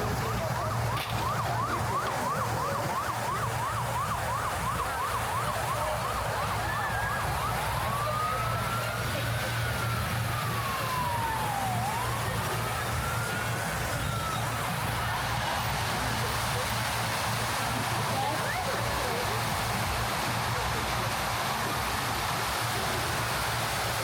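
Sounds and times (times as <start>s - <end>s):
emergency vehicle siren: 0.0s - 24.0s
street traffic hum: 0.0s - 24.0s.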